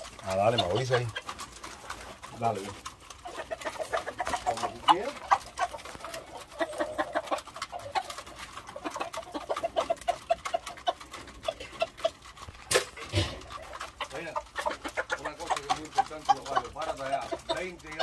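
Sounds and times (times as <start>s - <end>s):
roosters clucking: 0.0s - 18.0s.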